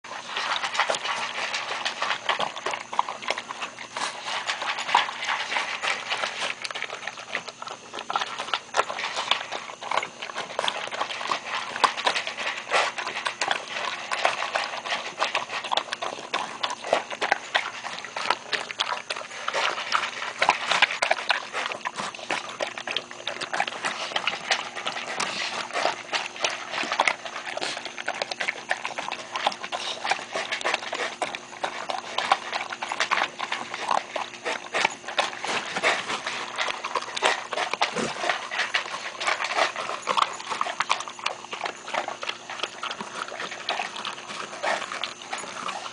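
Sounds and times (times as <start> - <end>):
puppy eating from a plastic tub: 0.0 - 45.9.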